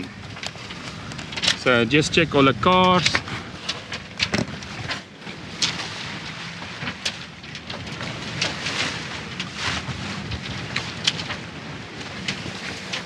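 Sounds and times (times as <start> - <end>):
wind rushing over a deck: 0.0 - 13.0.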